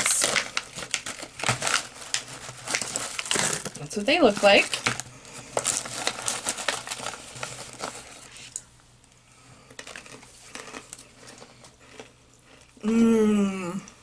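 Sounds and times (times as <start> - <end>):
plastic snack pouch crinkling: 0.0 - 8.6, 9.6 - 12.6.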